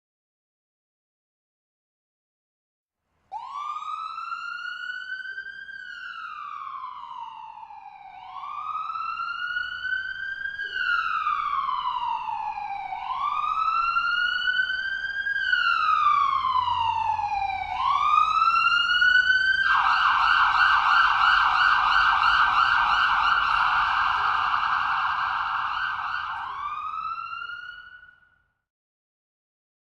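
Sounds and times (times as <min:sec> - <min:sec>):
siren rapid yelp: 0:03.3 - 0:28.3
ambulance siren wailing: 0:03.3 - 0:28.4.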